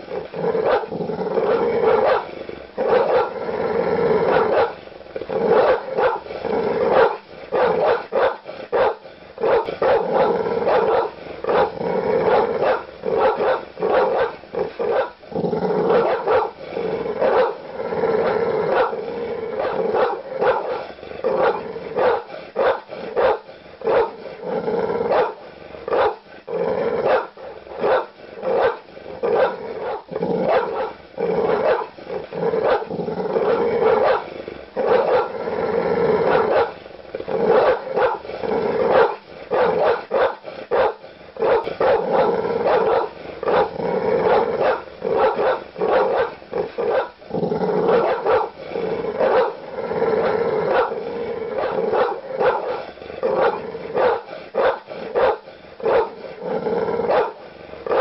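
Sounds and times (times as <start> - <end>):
large dog barking aggressively: 0.0 - 58.0.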